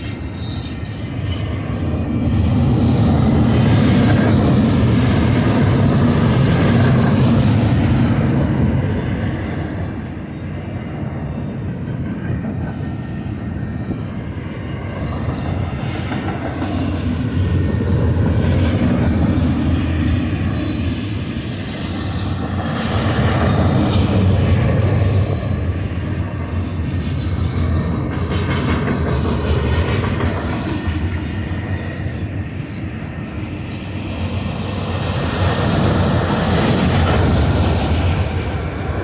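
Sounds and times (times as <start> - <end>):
freight train rumbling by: 0.0 - 39.0.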